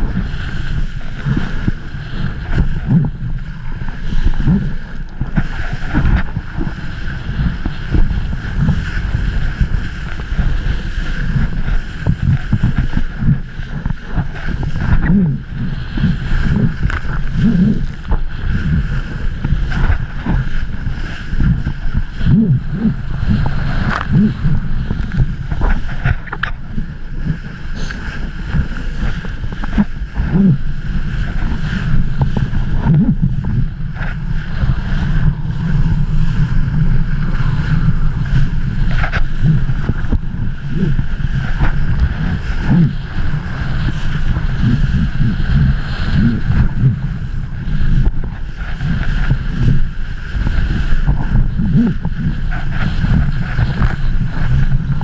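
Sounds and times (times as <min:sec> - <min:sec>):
water splashing: 0:00.0 - 0:55.0
wind buffeting microphone: 0:00.0 - 0:55.0.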